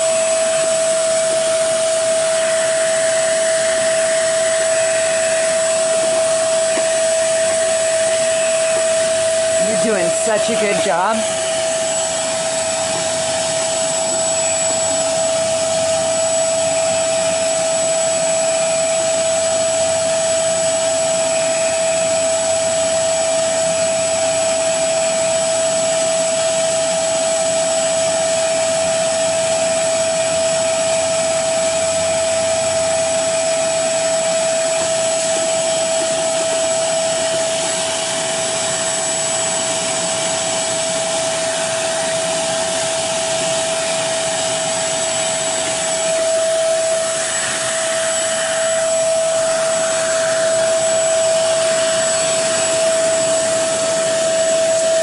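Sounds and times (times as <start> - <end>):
hose sucking up water: 0.0 - 24.4, 29.2 - 55.0
suction motor whining: 0.0 - 55.0.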